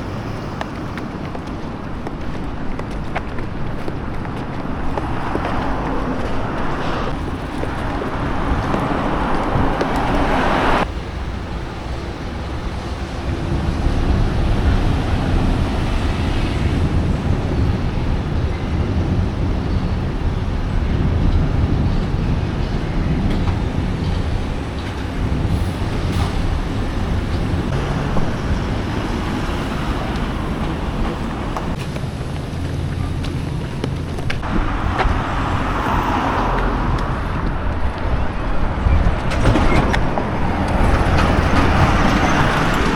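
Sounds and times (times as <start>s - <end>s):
city road traffic rumble: 0.0s - 42.9s.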